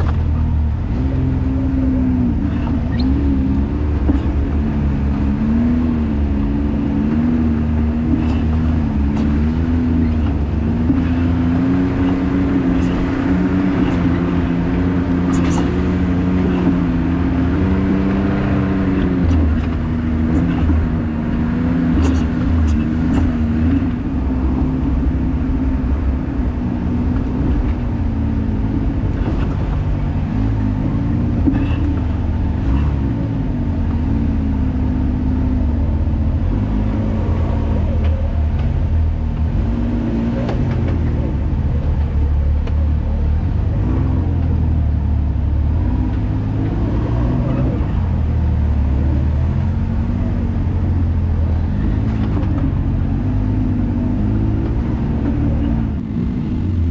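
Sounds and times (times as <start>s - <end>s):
engine revving at low speed: 0.0s - 56.9s.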